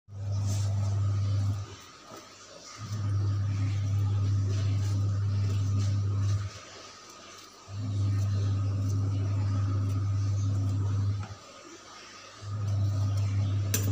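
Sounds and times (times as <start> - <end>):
low electrical hum: 0.1 - 13.9.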